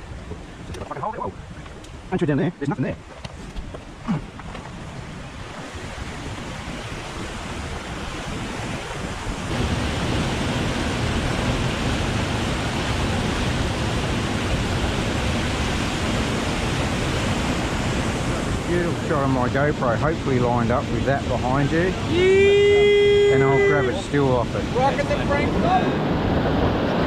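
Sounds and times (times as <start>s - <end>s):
white water rushing: 0.0s - 3.1s, 3.9s - 27.0s.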